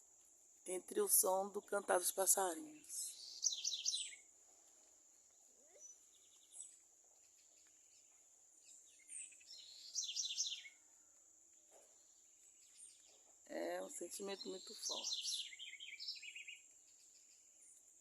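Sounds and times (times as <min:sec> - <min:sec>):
small birds singing: 0:00.0 - 0:18.0.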